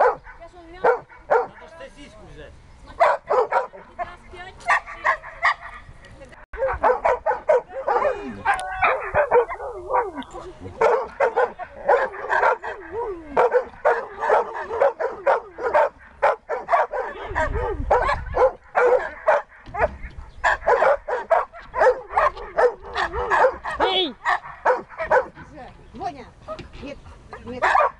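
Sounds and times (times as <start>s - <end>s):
dog barking and yelping: 0.0s - 1.7s, 3.0s - 5.8s, 6.6s - 25.4s, 27.3s - 27.9s.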